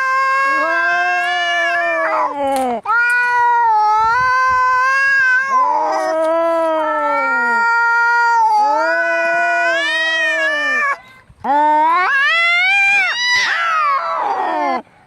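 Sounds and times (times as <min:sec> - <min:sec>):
cats yowling in a fight: 0:00.0 - 0:14.9.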